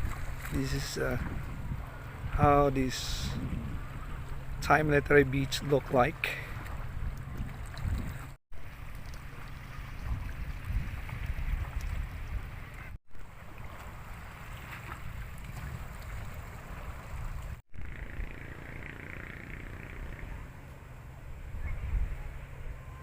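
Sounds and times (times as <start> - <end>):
wind buffeting microphone: 0.0 - 13.0, 14.5 - 23.0.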